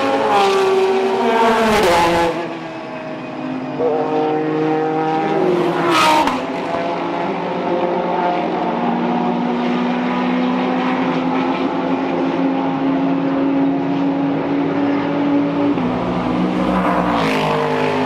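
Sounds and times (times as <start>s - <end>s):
car accelerating: 0.0s - 18.0s
race car engines: 0.0s - 18.0s.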